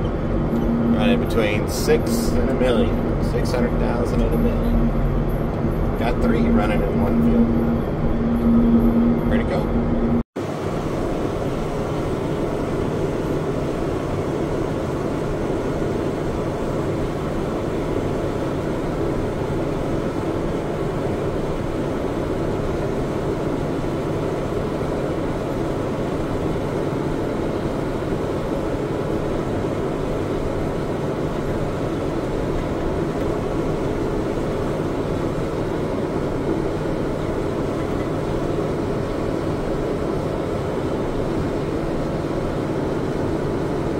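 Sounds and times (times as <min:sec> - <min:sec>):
farm machinery engine running: 0:00.0 - 0:10.2, 0:10.9 - 0:43.9.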